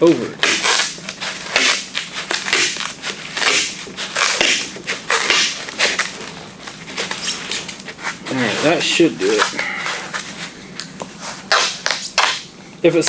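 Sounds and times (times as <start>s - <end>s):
duct tape peeling off roll: 0.4s - 10.4s, 11.3s - 12.5s.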